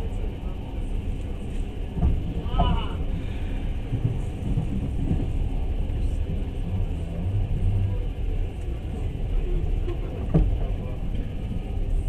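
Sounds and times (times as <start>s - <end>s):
train carriage rumbling on track: 0.0s - 12.0s.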